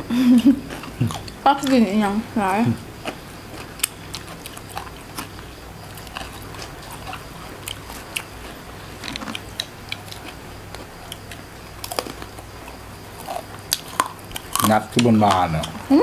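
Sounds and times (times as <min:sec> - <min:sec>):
chewing and biting: 0:00.4 - 0:01.8, 0:03.0 - 0:15.9.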